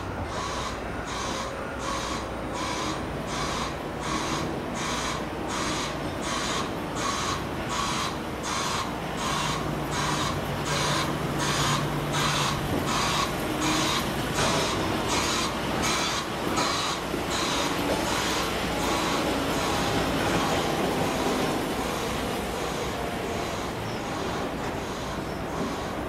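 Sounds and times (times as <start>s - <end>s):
diesel locomotive engine drone: 0.0s - 26.0s
pulsing high hiss: 0.0s - 26.0s.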